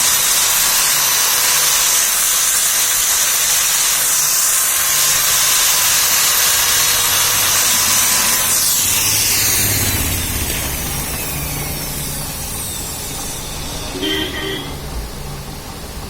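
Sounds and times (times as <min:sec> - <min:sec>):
torch flame hissing: 0:00.0 - 0:16.0.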